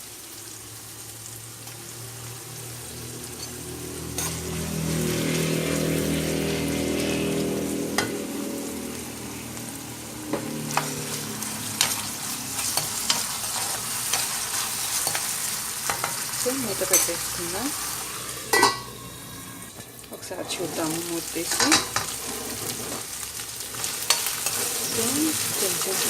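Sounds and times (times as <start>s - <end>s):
masala sizzling in hot oil: 0.0s - 26.0s.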